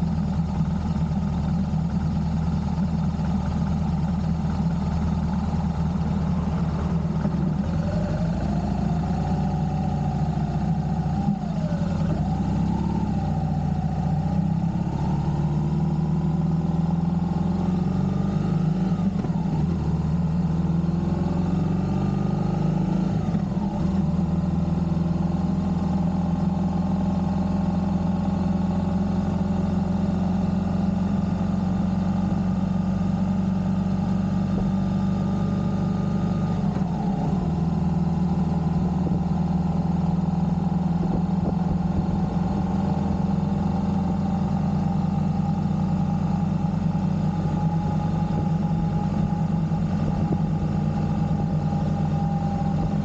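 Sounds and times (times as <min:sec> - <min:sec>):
road noise: 0:02.8 - 0:28.4, 0:32.1 - 0:53.0
vehicle engine accelerating: 0:03.2 - 0:53.0.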